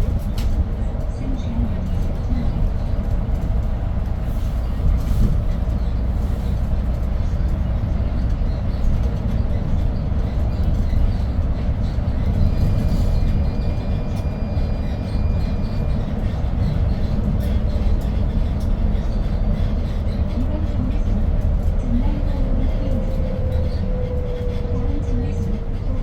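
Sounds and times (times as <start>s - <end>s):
bus engine rumble: 0.0s - 26.0s
road and cabin noise: 0.0s - 26.0s.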